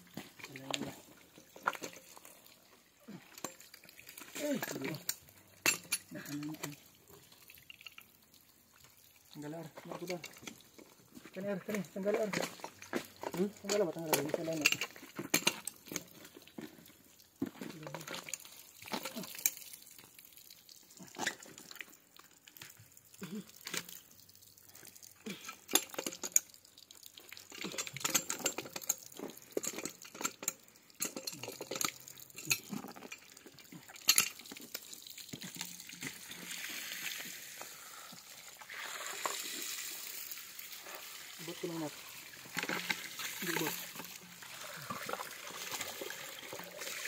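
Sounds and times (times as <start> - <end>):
water running from pipe: 0.0 - 47.0.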